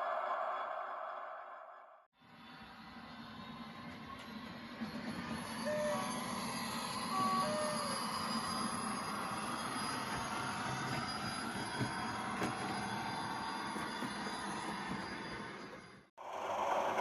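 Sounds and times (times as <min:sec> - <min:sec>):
model locomotive engine sound: 0:02.2 - 0:17.0.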